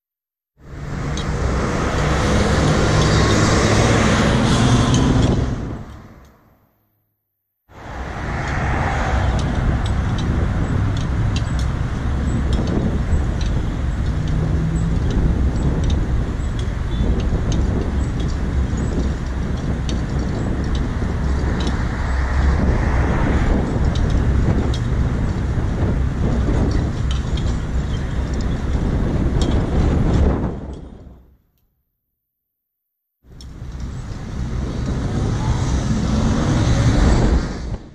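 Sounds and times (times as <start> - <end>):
traffic engines idling: 0.6 - 6.4, 7.7 - 29.8, 33.4 - 37.4.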